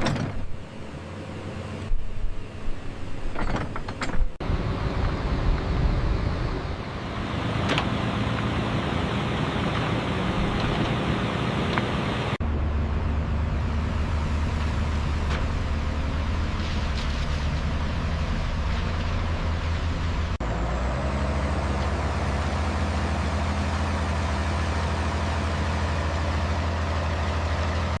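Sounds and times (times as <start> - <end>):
low vehicle engine rumble: 0.0 - 28.0.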